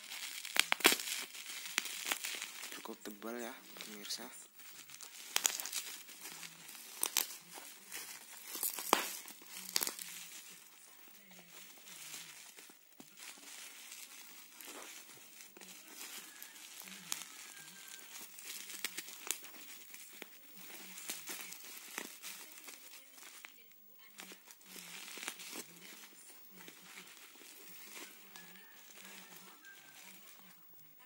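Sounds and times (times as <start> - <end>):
bubble wrap crinkling: 0.0 - 31.0.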